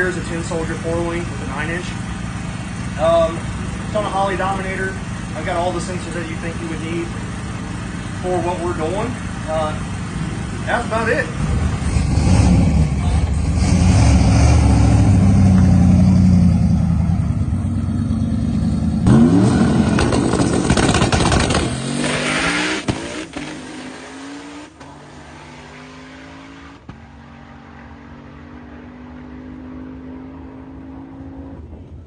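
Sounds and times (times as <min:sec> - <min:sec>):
truck engine at full throttle: 0:00.0 - 0:31.9.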